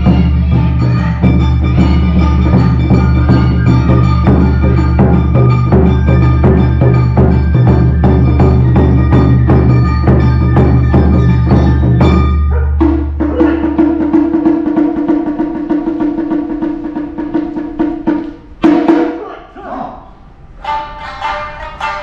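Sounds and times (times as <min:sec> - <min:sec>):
drums and percussion: 0:00.0 - 0:19.3
loud drum hit: 0:00.0 - 0:19.3.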